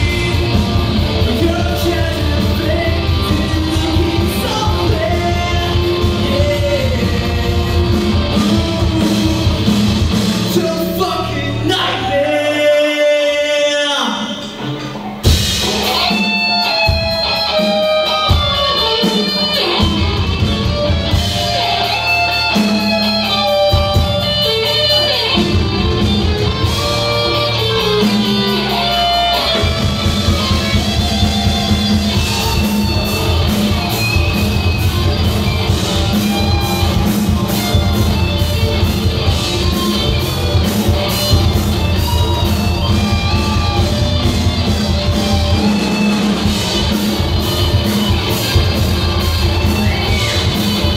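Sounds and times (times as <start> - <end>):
drums and cymbals: 0.0 - 12.4, 14.1 - 50.9
electric guitar lead line: 0.0 - 12.4, 14.4 - 50.9
live rock band playing: 0.0 - 50.9.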